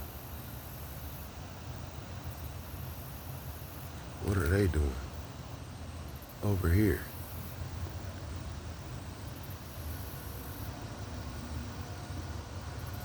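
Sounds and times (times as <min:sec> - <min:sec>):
background rumble and hiss: 0:00.0 - 0:13.0.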